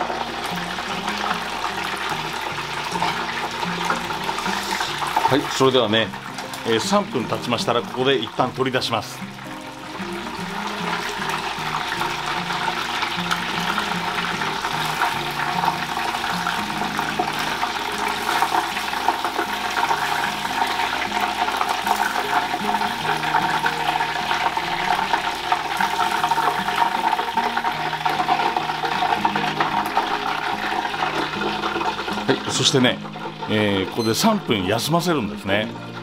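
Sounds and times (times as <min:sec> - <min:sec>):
hot oil sizzling and crackling: 0:00.0 - 0:36.0.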